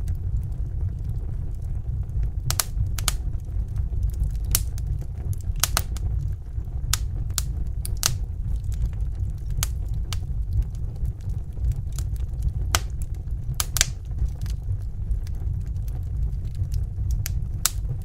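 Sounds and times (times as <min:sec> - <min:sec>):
fire rumbling: 0:00.0 - 0:18.0
wood crackling and popping: 0:00.0 - 0:18.0.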